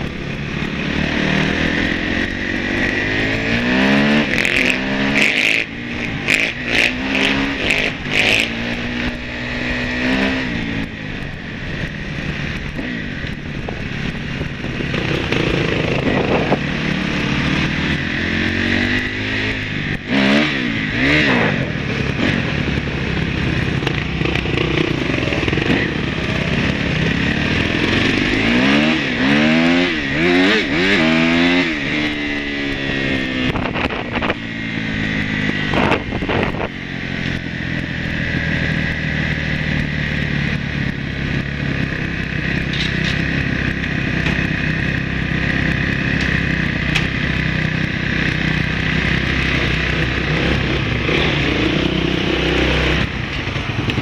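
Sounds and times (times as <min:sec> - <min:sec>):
wind noise: 0:00.0 - 0:45.2
dirt bike engine revving: 0:00.0 - 0:54.0.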